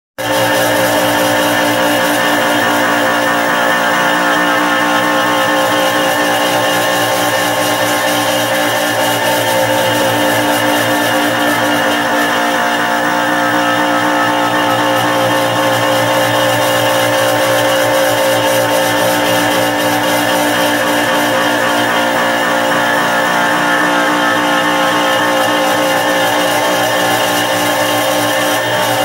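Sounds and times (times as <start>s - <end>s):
milling machine motor whine: 0.2s - 29.0s.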